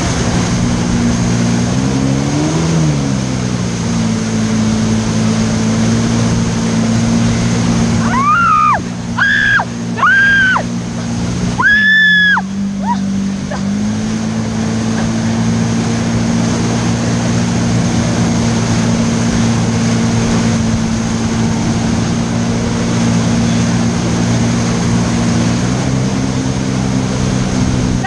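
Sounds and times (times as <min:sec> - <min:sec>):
jet ski engine running: 0:00.0 - 0:28.0
water wake and spray: 0:00.0 - 0:28.0.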